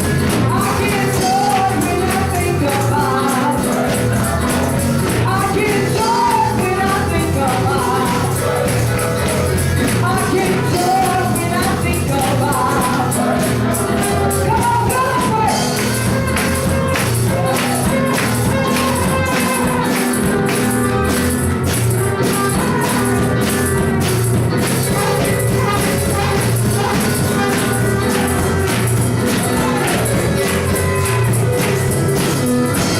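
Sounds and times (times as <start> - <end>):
people singing: 0.0 - 21.4, 22.0 - 31.9
gospel band music: 0.0 - 32.9
tambourine beat: 0.0 - 32.9.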